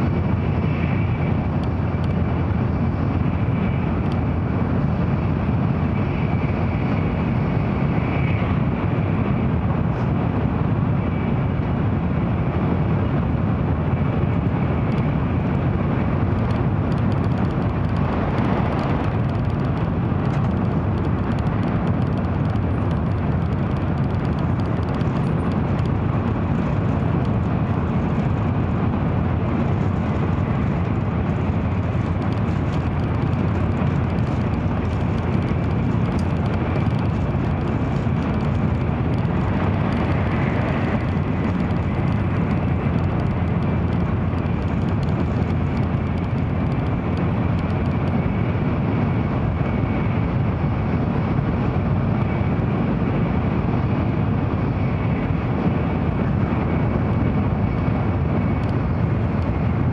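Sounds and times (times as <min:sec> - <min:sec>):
high-speed train cabin rumble: 0:00.0 - 0:59.9.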